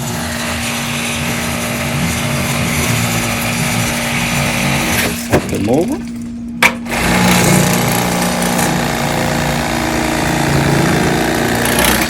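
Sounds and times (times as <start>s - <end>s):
electric knife buzzing: 0.0s - 5.3s, 6.8s - 12.0s.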